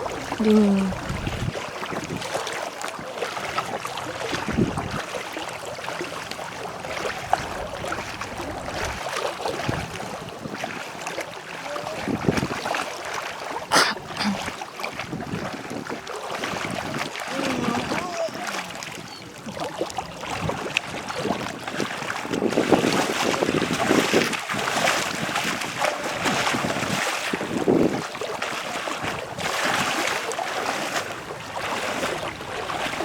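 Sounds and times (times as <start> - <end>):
water noise: 0.0 - 33.0
wind: 0.0 - 33.0.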